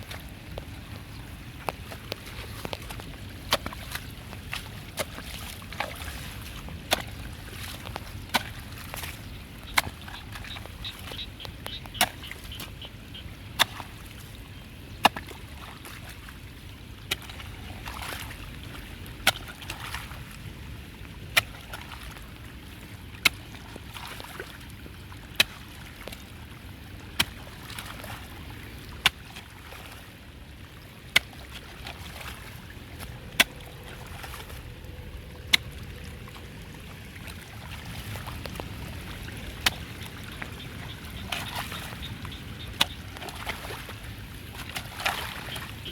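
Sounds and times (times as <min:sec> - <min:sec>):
water sloshing and trickling: 0:00.0 - 0:45.9.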